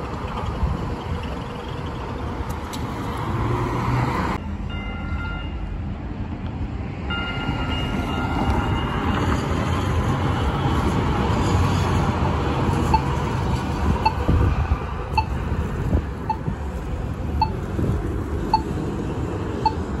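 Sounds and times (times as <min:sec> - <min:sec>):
cars moving: 0:00.0 - 0:04.6, 0:06.5 - 0:20.0
light rail train rumbling: 0:00.0 - 0:20.0.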